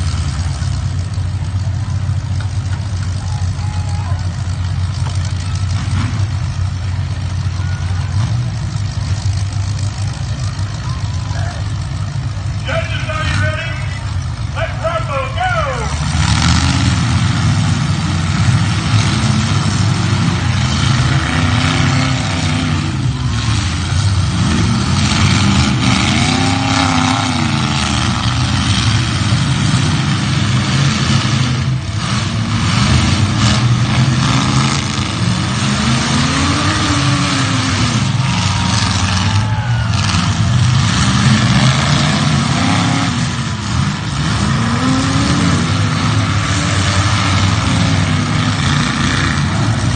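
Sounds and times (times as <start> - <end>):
car engines revving: 0.0 - 49.9.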